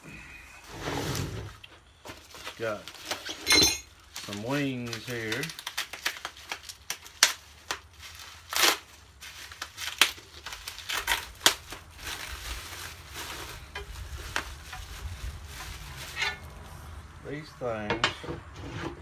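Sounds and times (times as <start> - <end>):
packaging rustling and crinkling: 1.5 - 16.9.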